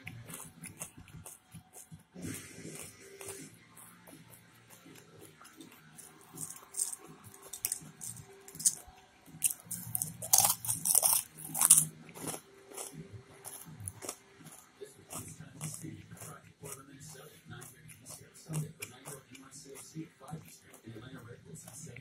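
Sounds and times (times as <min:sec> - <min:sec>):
chewing crunchy food: 0:00.0 - 0:22.0.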